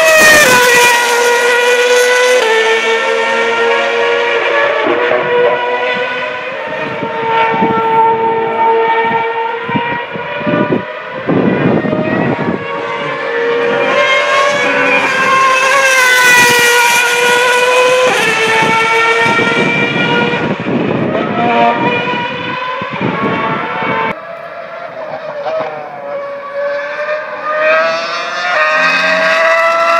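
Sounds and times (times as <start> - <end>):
racing car engine passing: 0.0 - 29.9.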